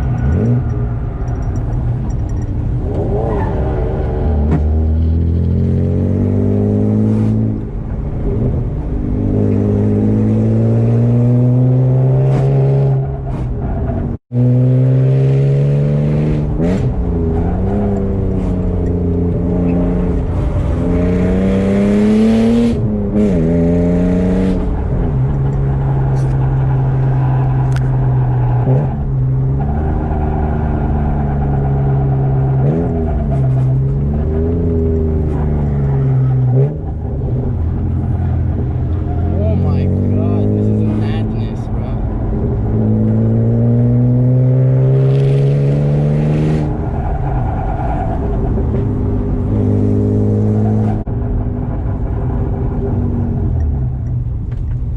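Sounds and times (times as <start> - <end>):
car engine revving through gears: 0.0 - 54.9.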